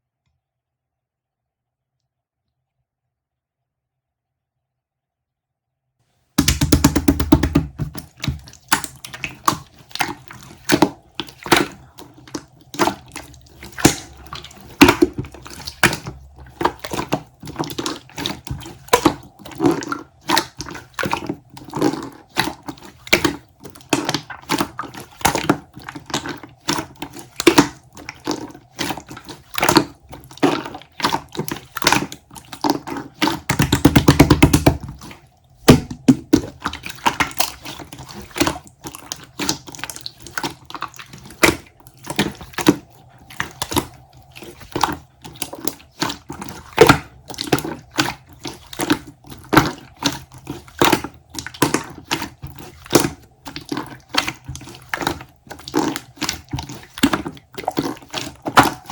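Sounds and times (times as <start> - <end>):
irregular clicks and wet pops: 6.4 - 58.9.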